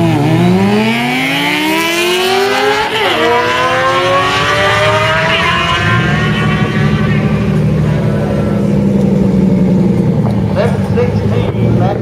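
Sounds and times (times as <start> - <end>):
motorcycles accelerating hard: 0.0 - 12.0.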